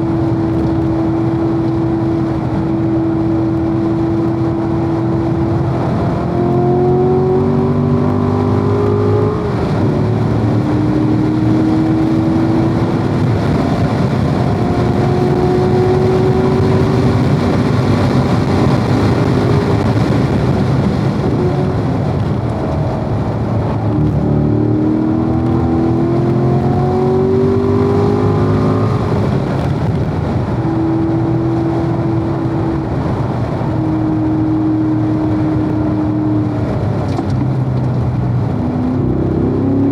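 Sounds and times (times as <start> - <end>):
car engine accelerating hard: 0.0 - 39.9
road and wind noise: 0.0 - 39.9.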